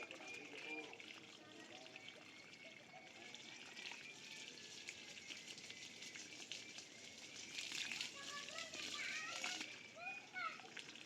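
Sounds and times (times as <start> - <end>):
faint splashing water: 0.0 - 11.0.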